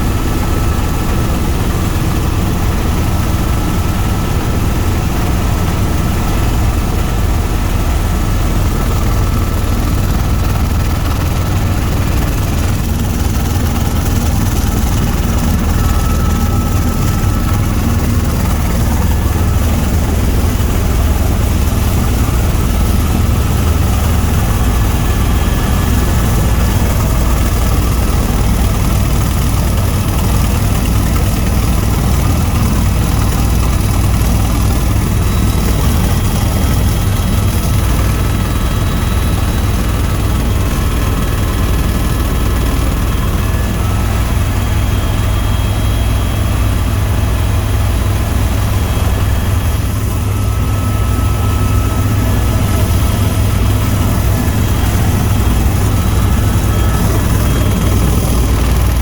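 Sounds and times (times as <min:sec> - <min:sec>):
helicopter rotor drone: 0:00.0 - 0:59.0.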